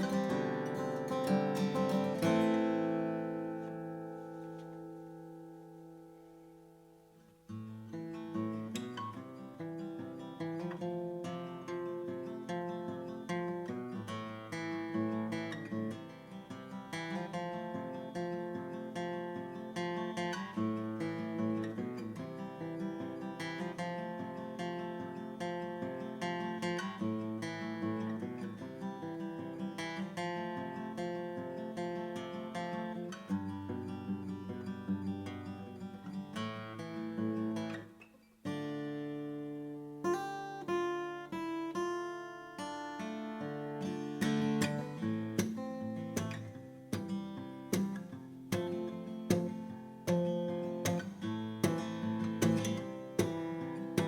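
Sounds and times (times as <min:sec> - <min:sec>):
acoustic guitar strummed: 0:00.0 - 0:54.0.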